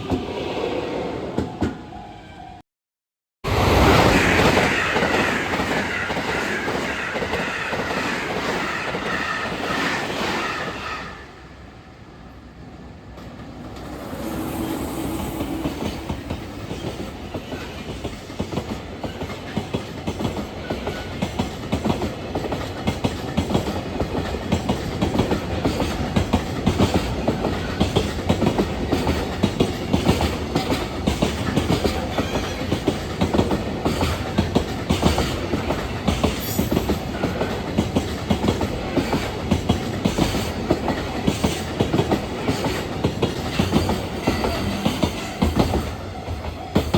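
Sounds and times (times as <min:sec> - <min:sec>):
train rumble: 0:03.5 - 0:46.9
train wheels clickety-clack: 0:04.0 - 0:11.2, 0:13.2 - 0:46.9.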